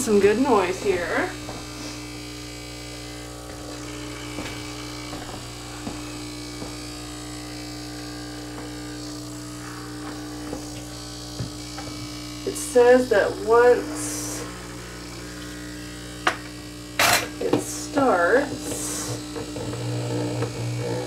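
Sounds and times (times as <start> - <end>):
espresso machine pump buzzing: 0.0 - 21.0.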